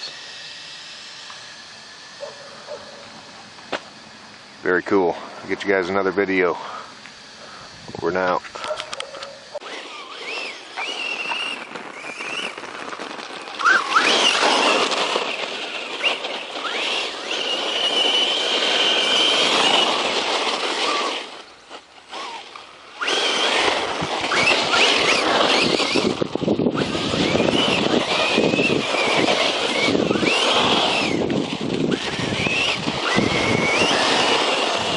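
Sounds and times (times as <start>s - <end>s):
electric motor whining: 0.0s - 34.9s
tyre and ground noise: 1.2s - 34.9s.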